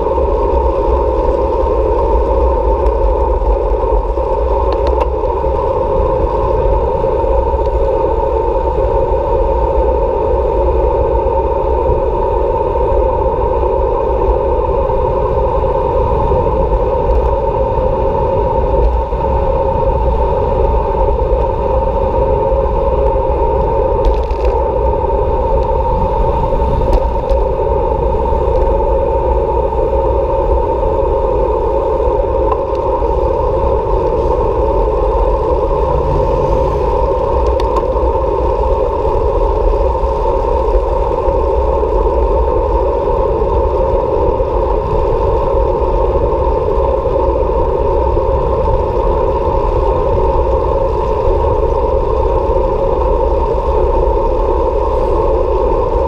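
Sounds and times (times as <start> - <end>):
constant hum: 0.0 - 56.0
road rumble: 0.0 - 56.0
wind noise: 0.0 - 56.0.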